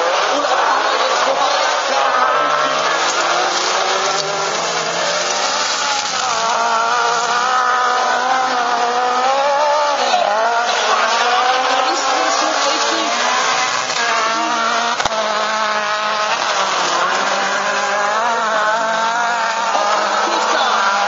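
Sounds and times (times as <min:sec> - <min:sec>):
racing buggy engines revving: 0:00.0 - 0:21.0.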